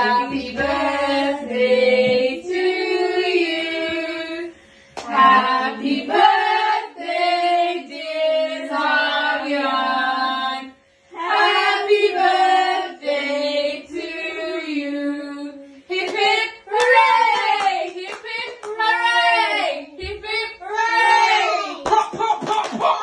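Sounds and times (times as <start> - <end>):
women and children singing: 0.0 - 22.3.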